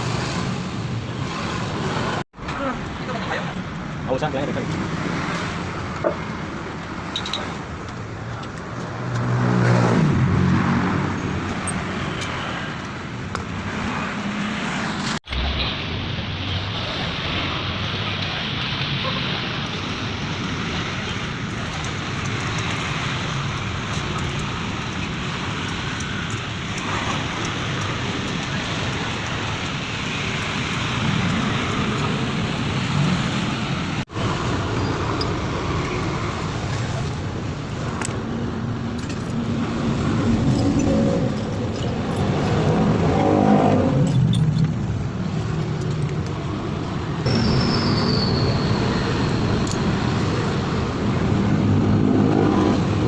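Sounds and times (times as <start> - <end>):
road traffic: 0.0 - 53.0.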